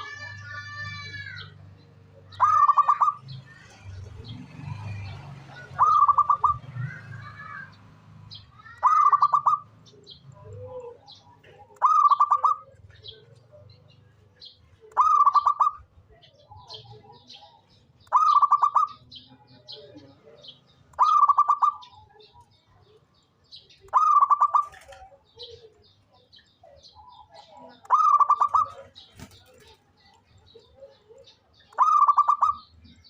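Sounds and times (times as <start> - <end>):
dove singing: 0.0 - 33.0.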